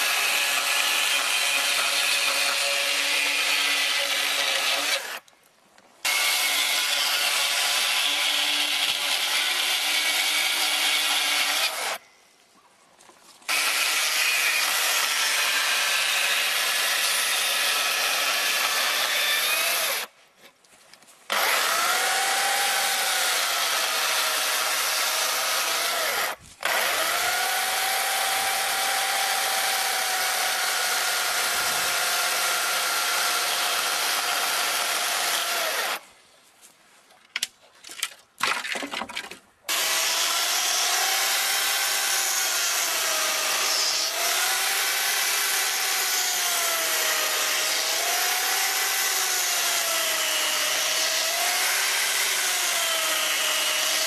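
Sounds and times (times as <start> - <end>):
electric chainsaw cutting log: 0.0 - 5.2, 6.0 - 12.0, 13.5 - 20.1, 21.3 - 36.0, 39.7 - 54.0.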